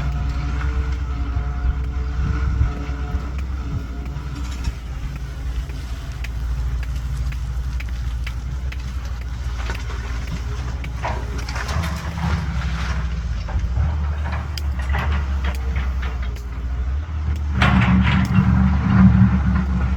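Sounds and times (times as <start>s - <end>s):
clanks and rattles: 0.0s - 19.9s
excavator diesel engine running: 0.0s - 19.9s
rushes of digging noise: 0.0s - 19.9s.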